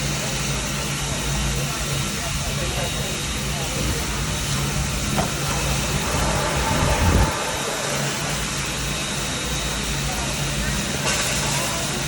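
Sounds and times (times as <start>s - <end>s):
steam pump humming and pulsing: 0.0s - 12.0s.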